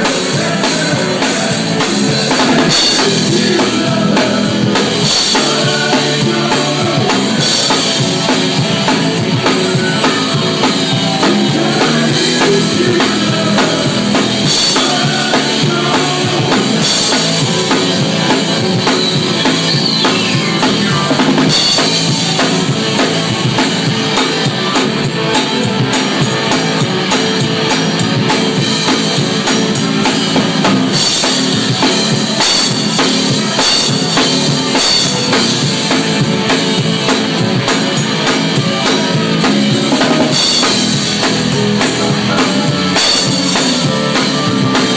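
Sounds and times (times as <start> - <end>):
drum kit playing: 0.0 - 44.9.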